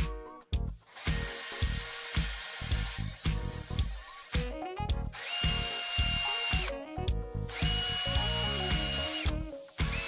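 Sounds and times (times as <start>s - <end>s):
cordless drill whining: 0.8s - 6.8s, 7.5s - 10.0s.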